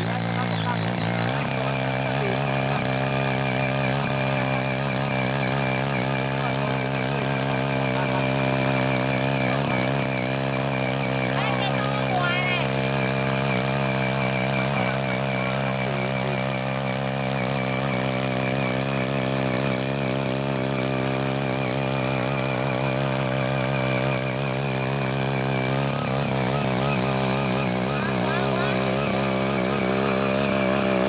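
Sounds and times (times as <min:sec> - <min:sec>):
small petrol engine running: 0:00.0 - 0:31.0
tiller tines digging soil: 0:00.0 - 0:31.0.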